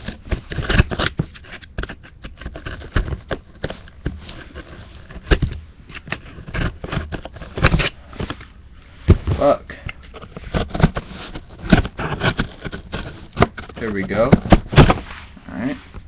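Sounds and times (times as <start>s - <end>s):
box cutter scraping cardboard: 0.0s - 8.4s, 9.1s - 15.2s.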